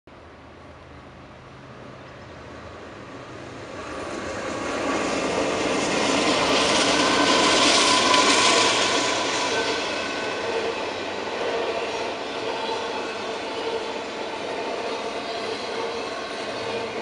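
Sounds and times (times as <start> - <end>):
diesel locomotive passing: 0.2 - 17.0
train cars rolling by: 0.8 - 17.0.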